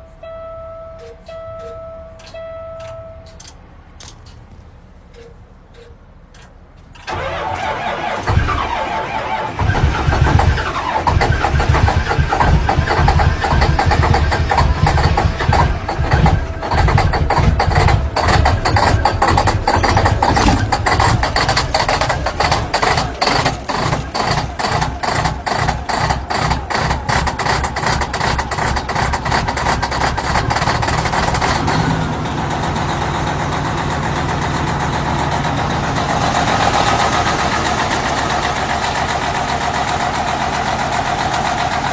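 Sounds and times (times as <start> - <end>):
truck engine starting and running: 0.0 - 41.9.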